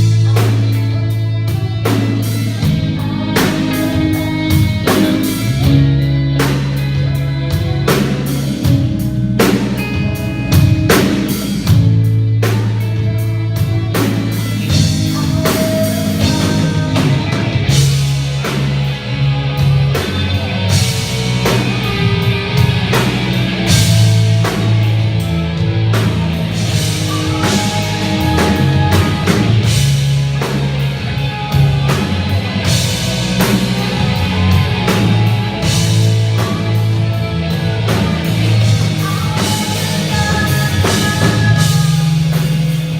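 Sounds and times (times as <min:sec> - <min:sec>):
bass line: 0:00.0 - 0:42.9
drum kit beating: 0:00.0 - 0:42.9
electric guitar: 0:00.0 - 0:42.9.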